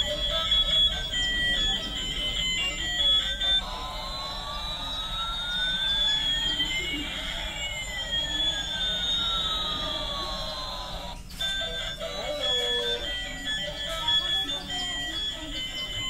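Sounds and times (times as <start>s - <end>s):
short beeping melody: 0.0s - 16.0s
siren-like synthesized tones: 0.0s - 16.0s.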